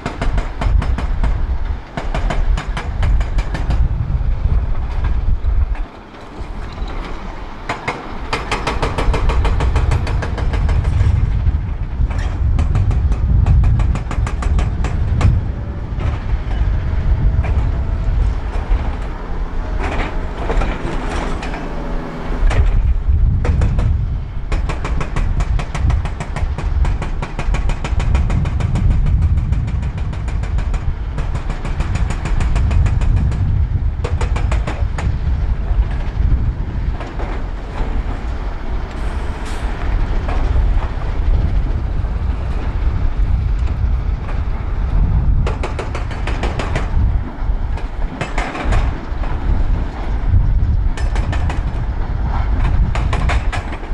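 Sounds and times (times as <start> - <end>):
diesel engine rumbling under load: 2.9 - 26.8, 27.4 - 53.9.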